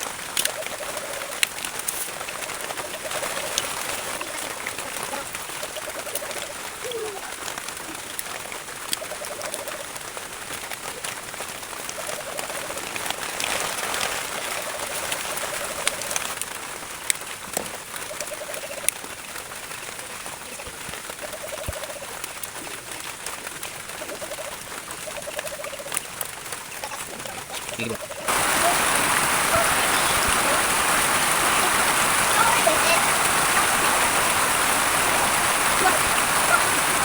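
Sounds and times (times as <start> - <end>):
dove cooing: 0.0 - 16.6, 17.9 - 37.0
rustling noise: 0.0 - 37.0
steady hiss: 0.0 - 37.0.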